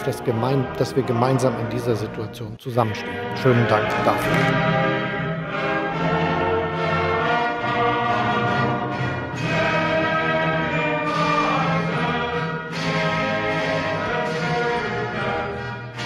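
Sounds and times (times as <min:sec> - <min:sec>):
choir singing: 0:00.0 - 0:16.0
orchestral music with brass: 0:00.0 - 0:16.0.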